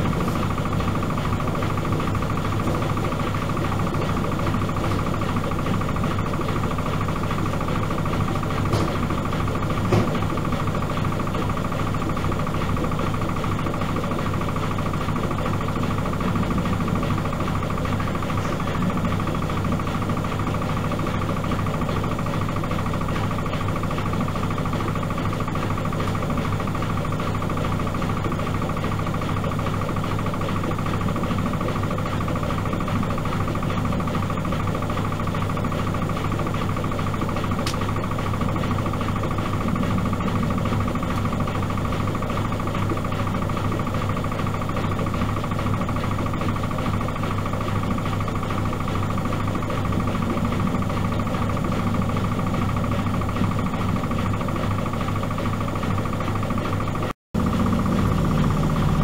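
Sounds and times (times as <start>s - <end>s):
washing machine drum spinning: 0.0s - 59.0s.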